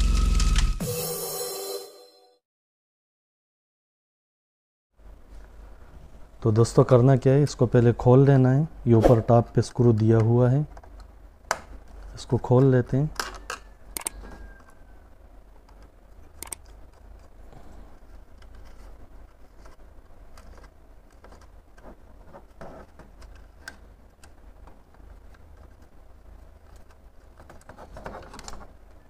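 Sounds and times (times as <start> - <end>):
low steady hum: 5.0 - 29.0.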